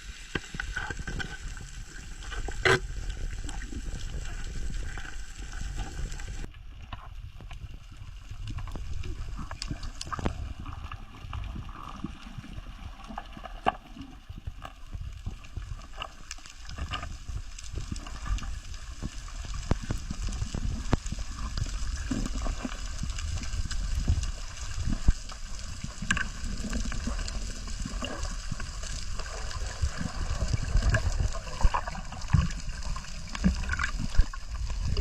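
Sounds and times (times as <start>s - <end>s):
water gurgling and sloshing: 0.0s - 35.0s
small knocks and bubbling blips: 2.3s - 4.2s, 8.5s - 35.0s.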